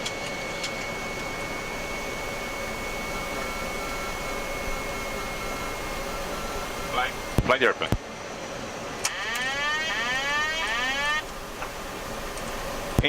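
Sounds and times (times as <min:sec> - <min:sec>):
high-pitched whine: 0:00.0 - 0:07.5, 0:09.0 - 0:13.0
rushing airflow and engine noise: 0:00.0 - 0:09.2, 0:09.9 - 0:13.0.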